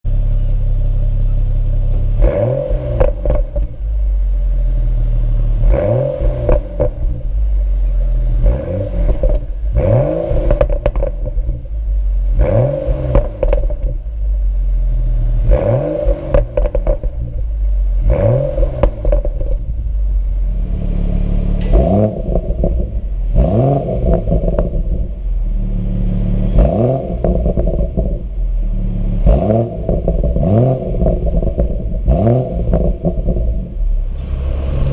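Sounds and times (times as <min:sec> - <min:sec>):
car exhaust revving: 0:00.0 - 0:34.9.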